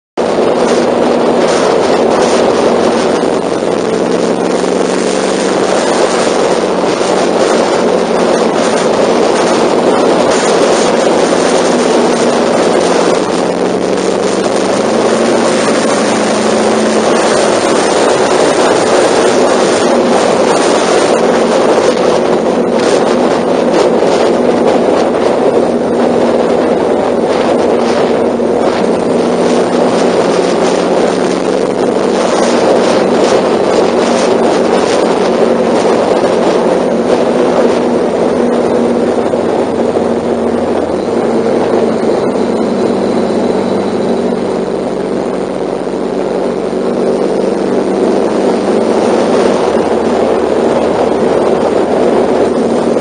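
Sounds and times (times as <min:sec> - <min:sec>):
motorcycle engine cruising: 0:00.2 - 0:53.0
wind rushing over microphone: 0:00.2 - 0:53.0.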